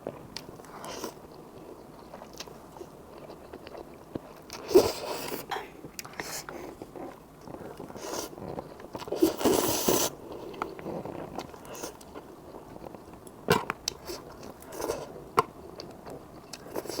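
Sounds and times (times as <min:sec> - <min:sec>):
chewing with clicks and smacks: 0:00.0 - 0:17.0.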